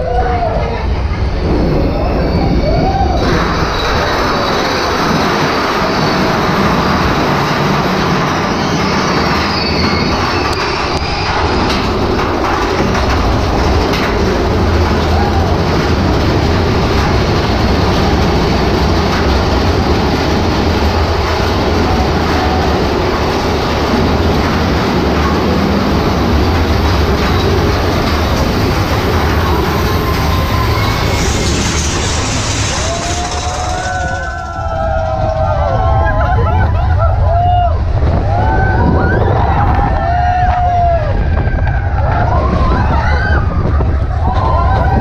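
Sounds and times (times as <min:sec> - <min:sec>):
roller coaster wheels rumbling: 0:00.0 - 0:45.0.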